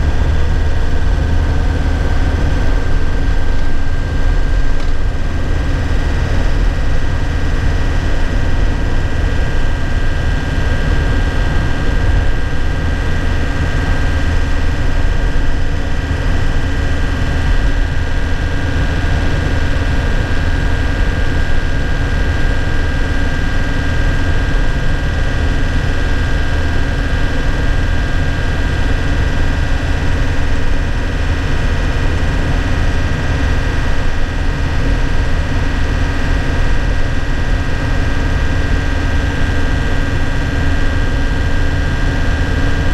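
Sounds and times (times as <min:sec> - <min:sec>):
high whine: 0:00.0 - 0:42.9
truck engine droning inside cab: 0:00.0 - 0:42.9.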